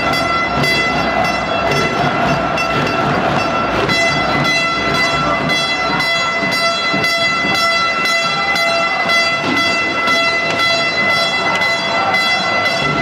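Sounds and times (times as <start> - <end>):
arena crowd noise: 0.0 - 13.0
faint rhythmic beats: 0.0 - 13.0.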